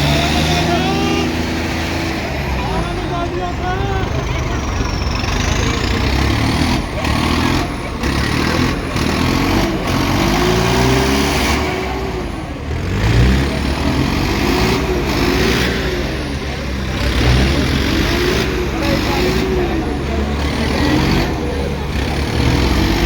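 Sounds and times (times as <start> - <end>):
tractor diesel engines revving: 0.0 - 23.0.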